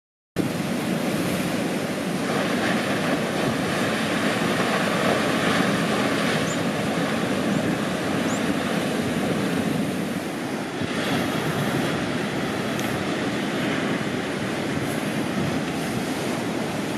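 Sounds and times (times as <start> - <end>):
surf breaking and washing in: 0.4 - 16.9.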